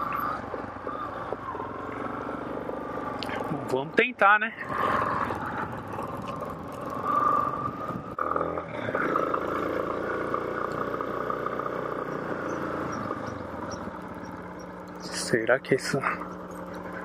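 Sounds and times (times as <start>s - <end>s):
motorcycle engine running: 0.0s - 3.9s, 4.6s - 17.0s.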